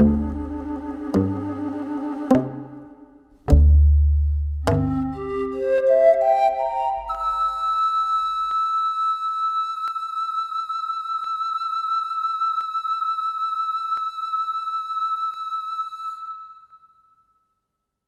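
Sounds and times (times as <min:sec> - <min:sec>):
bamboo flute high note: 0:00.0 - 0:03.3, 0:04.7 - 0:17.3.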